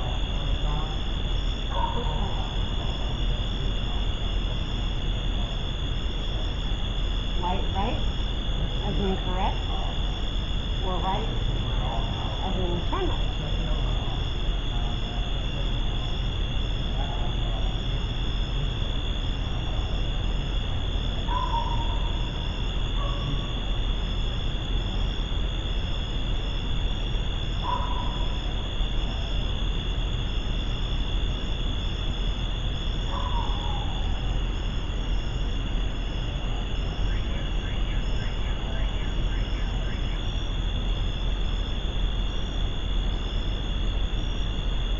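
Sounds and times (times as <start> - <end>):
constant hiss: 0.0 - 44.9
night insects chirring: 0.0 - 44.9.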